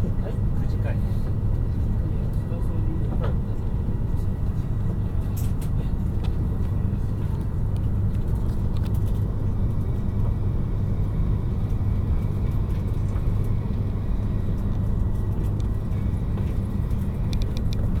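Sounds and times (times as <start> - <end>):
train cabin low rumble: 0.0 - 18.0.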